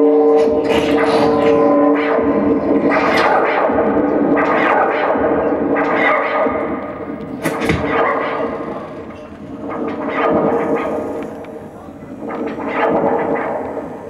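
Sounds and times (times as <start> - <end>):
steady held electronic drone: 0.0 - 14.0
noisy whip-like electronic hits: 0.3 - 14.0.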